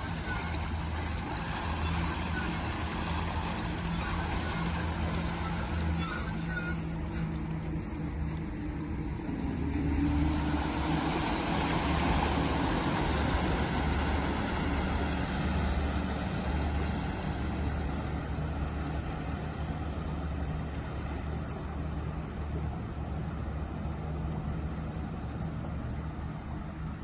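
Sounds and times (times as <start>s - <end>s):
water surging and splashing: 0.0s - 27.0s.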